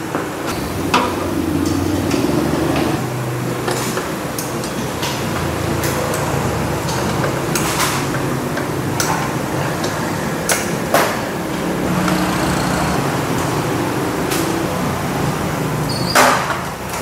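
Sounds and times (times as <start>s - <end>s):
steady workshop hum: 0.0s - 17.0s.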